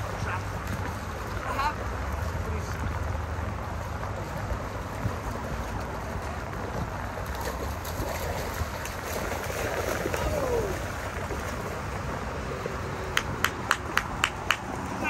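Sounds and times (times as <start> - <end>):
dogs splashing through water: 0.0 - 15.0
water lapping: 0.0 - 15.0
wind on microphone: 2.8 - 15.0.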